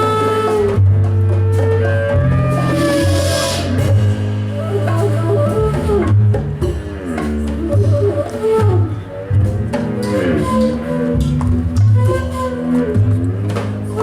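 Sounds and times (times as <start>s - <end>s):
deep bass line: 0.0s - 14.0s
drum hits: 0.0s - 14.0s.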